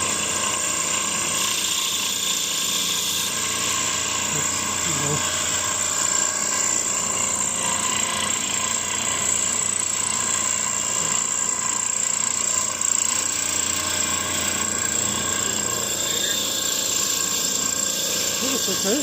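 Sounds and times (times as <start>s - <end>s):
electric drill whining: 0.0s - 19.0s.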